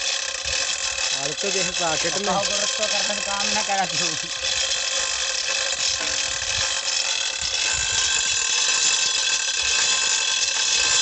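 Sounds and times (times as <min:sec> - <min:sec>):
high-pitched buzzing: 0:00.0 - 0:11.0.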